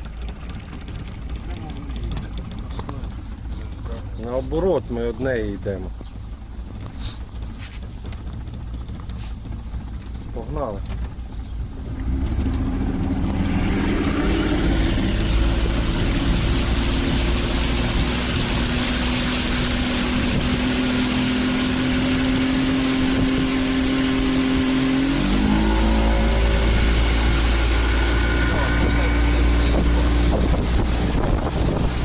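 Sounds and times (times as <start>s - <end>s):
outboard motor running: 0.0s - 32.0s
rush of wind and water: 0.0s - 32.0s.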